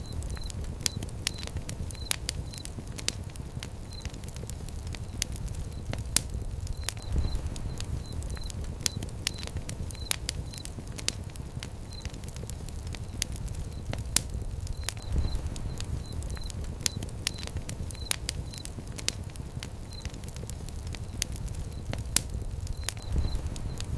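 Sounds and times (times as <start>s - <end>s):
fire crackling and popping: 0.0s - 23.9s
low rumble of flames: 0.0s - 23.9s.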